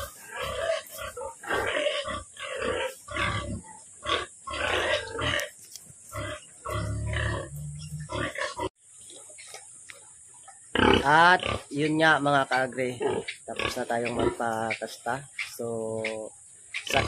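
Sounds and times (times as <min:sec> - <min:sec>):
pigs grunting: 0:00.0 - 0:08.7, 0:10.7 - 0:16.2, 0:16.8 - 0:17.0.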